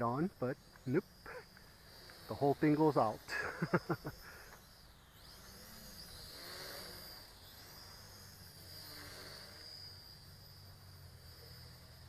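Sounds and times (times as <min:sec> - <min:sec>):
distant drone motors whining: 0:00.0 - 0:12.0.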